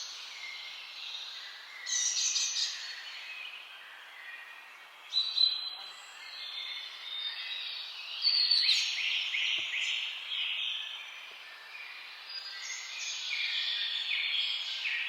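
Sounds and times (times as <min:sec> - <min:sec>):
songbirds singing and chirping: 0:00.0 - 0:15.0
steady background hiss: 0:00.0 - 0:15.0.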